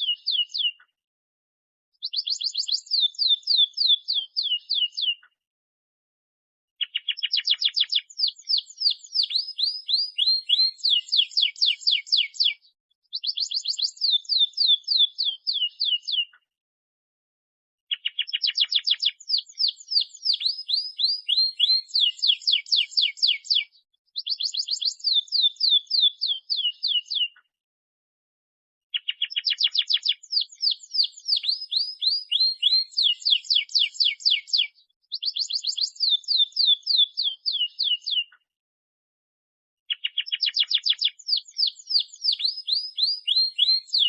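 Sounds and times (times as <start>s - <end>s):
canary singing trills: 0.0s - 0.8s, 2.0s - 5.3s, 6.8s - 16.4s, 17.9s - 27.4s, 28.9s - 38.4s, 39.9s - 44.0s.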